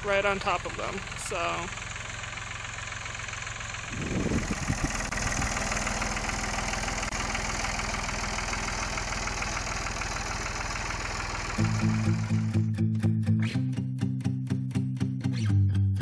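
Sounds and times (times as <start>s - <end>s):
tractor engine running: 0.0s - 13.6s.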